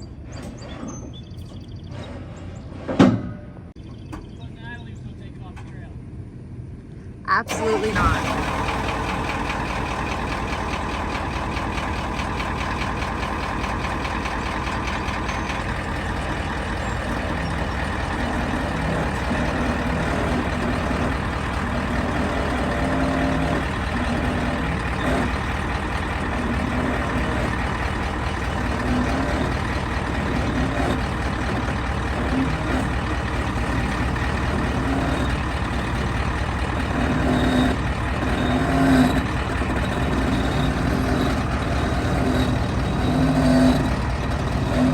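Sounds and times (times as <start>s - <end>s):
diesel engine running: 3.6s - 44.9s.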